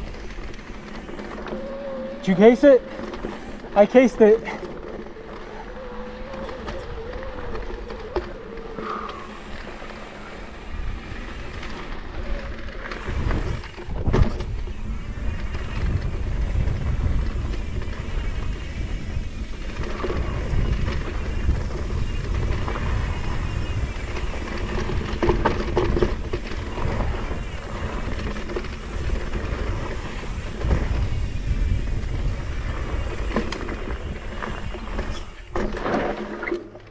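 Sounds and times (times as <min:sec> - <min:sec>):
wind buffeting microphone: 0:00.0 - 0:35.6
bike rattling and rumbling: 0:00.0 - 0:36.9.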